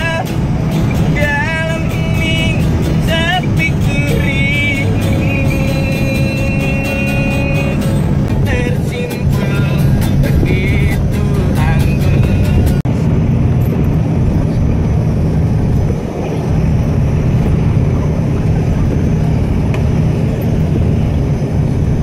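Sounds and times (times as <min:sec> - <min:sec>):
vehicle rumble from inside cabin: 0:00.0 - 0:22.0.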